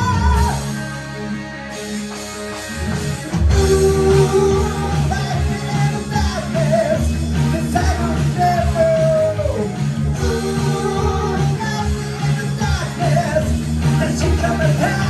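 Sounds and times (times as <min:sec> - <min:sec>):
hard rock band playing live: 0:00.0 - 0:15.0.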